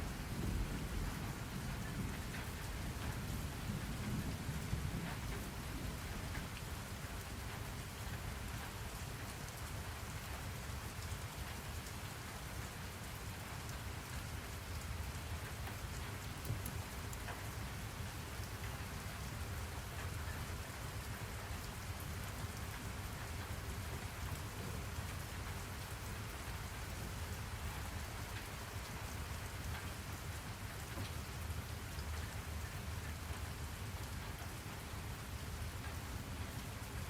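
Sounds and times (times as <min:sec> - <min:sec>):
steady rain hiss: 0:00.0 - 0:37.0
raindrop ticks: 0:00.1 - 0:37.0.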